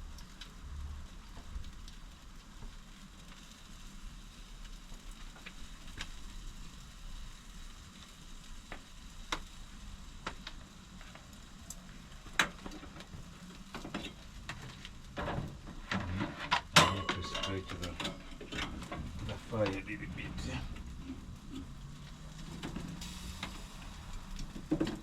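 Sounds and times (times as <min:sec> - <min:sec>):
chicken sizzling on a grill: 0:00.0 - 0:25.0
fire popping and crackling: 0:00.0 - 0:25.0.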